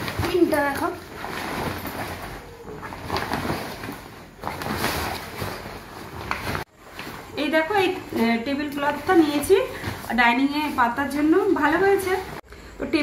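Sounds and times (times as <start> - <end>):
tablecloth rustling and swishing: 0.0 - 12.4.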